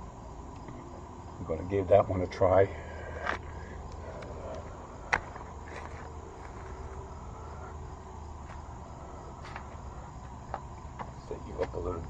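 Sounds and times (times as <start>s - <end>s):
insects chirping: 0.0s - 12.0s
low hum: 0.0s - 12.0s.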